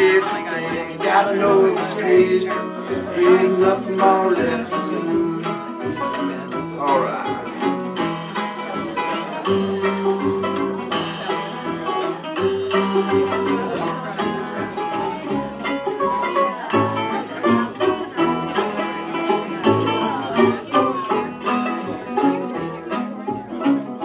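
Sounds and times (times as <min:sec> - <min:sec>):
banjo picking: 0:00.0 - 0:24.0
bluegrass string band playing: 0:00.0 - 0:24.0.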